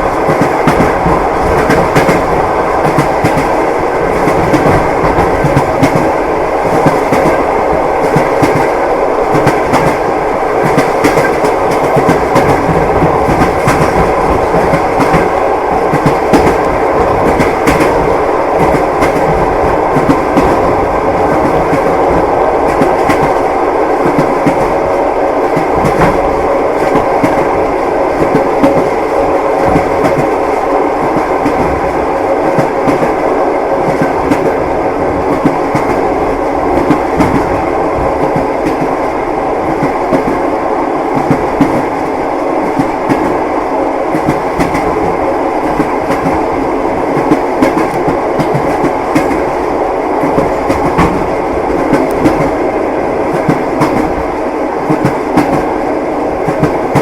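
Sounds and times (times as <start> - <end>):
train wheels clattering on rails: 0.0 - 43.4, 44.0 - 57.0.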